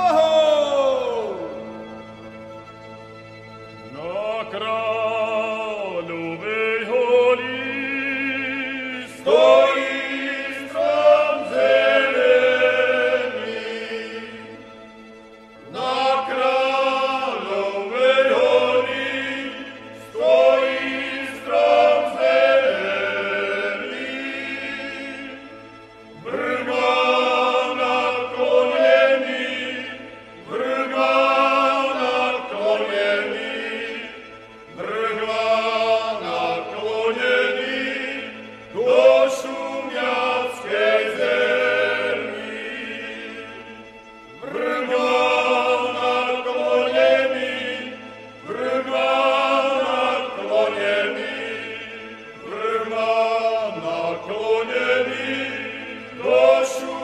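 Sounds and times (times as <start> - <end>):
men's group folk singing: 0.0 - 2.5, 3.8 - 57.0
lead singer: 0.0 - 57.0.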